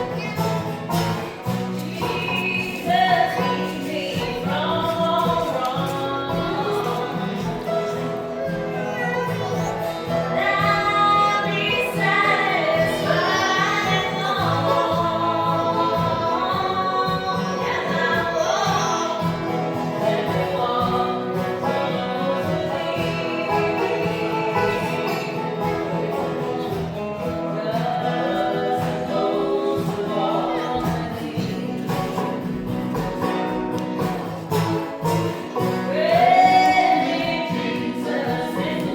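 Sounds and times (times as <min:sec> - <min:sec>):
acoustic guitar: 0:00.0 - 0:38.9
group singing gospel song: 0:00.7 - 0:08.7, 0:09.8 - 0:38.9.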